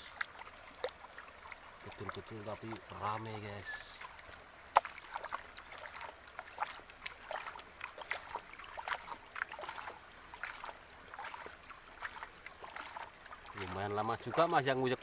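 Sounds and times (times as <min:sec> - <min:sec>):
water sloshing in a gold pan: 0:00.0 - 0:15.0.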